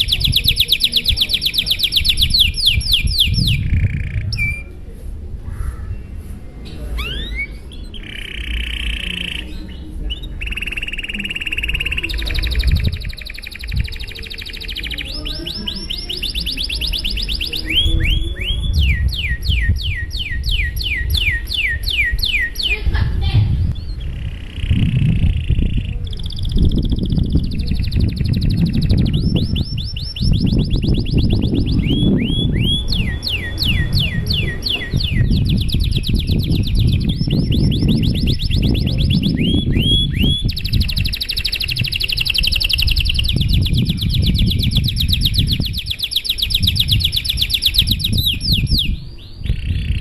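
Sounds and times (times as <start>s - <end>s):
canary singing trills: 0.0s - 4.7s, 5.6s - 50.0s
steady low rumble: 0.0s - 50.0s.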